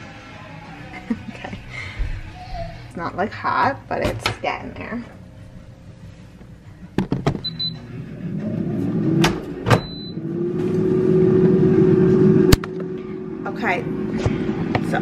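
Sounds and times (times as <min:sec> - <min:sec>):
air fryer fan whirring: 0:03.0 - 0:15.0.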